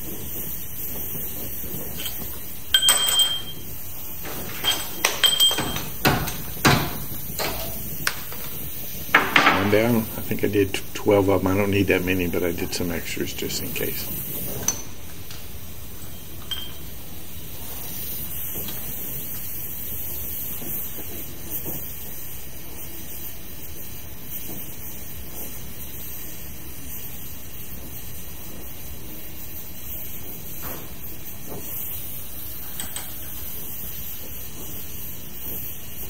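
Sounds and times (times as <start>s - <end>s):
gas torch hissing: 0.0s - 36.0s.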